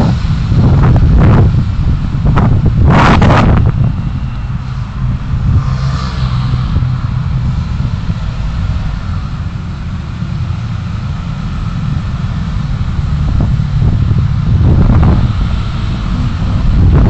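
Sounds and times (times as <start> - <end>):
road rumble: 0.0 - 17.0
wind noise: 0.0 - 17.0.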